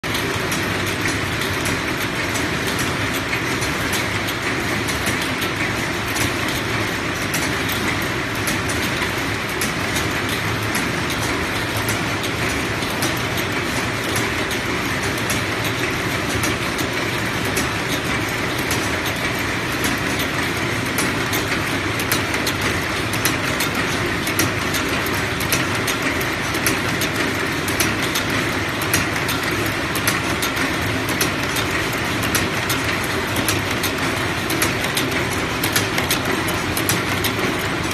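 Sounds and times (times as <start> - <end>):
spring forming machine clattering: 0.0 - 37.9.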